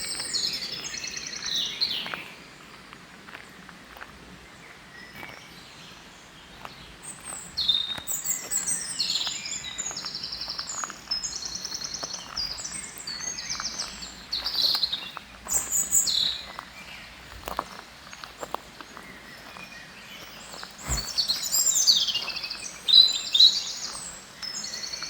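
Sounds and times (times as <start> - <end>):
songbirds trilling and chirping: 0.0 - 25.0.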